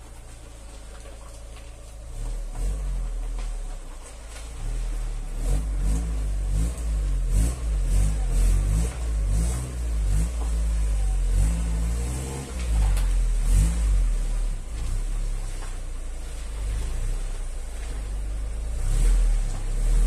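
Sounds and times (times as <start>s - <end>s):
car engine revving while reversing: 0.0s - 20.0s.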